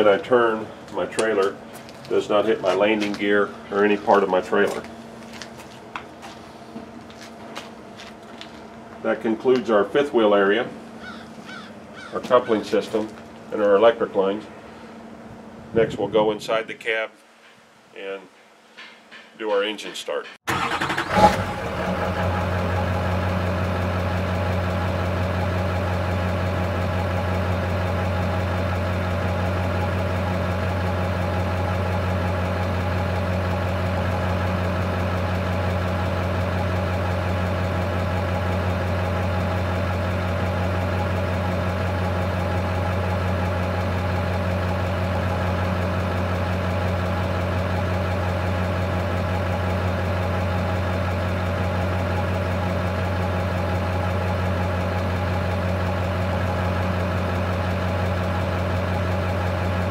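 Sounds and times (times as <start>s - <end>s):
diesel truck engine idling: 0.0s - 15.9s, 20.5s - 59.9s.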